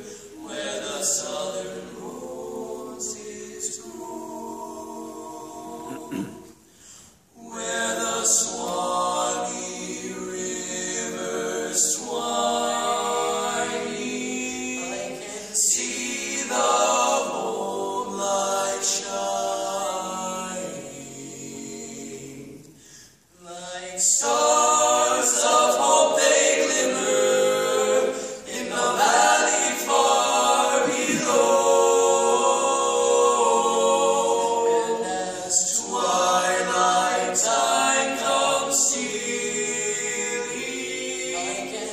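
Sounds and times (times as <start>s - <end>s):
male voices singing in harmony: 0.0s - 6.6s, 7.4s - 22.8s, 23.4s - 41.9s.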